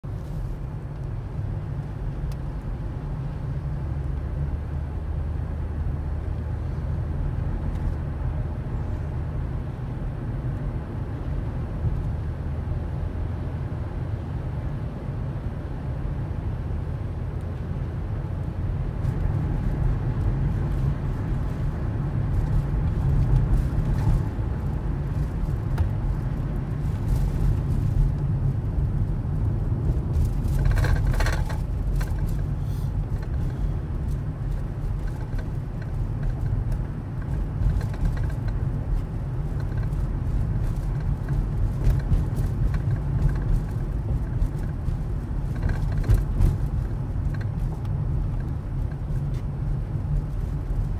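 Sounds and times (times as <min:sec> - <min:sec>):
car road rumble: 0:00.0 - 0:50.9.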